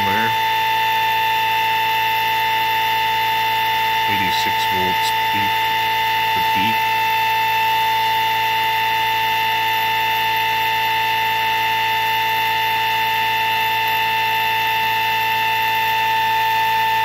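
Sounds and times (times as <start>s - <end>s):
motor high-pitched whine: 0.0s - 17.0s.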